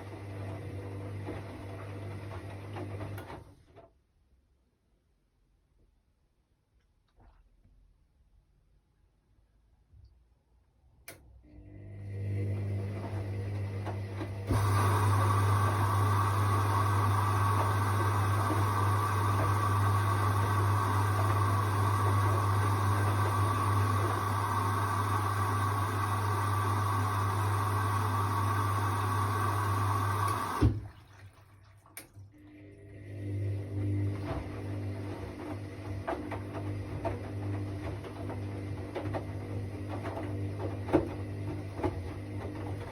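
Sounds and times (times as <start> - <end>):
washing machine humming: 0.0 - 3.9, 11.1 - 42.9.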